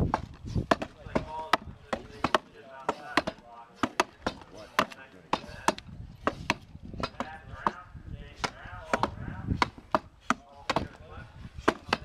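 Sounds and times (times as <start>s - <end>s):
axe chopping wood: 0.0s - 11.0s, 11.6s - 12.0s.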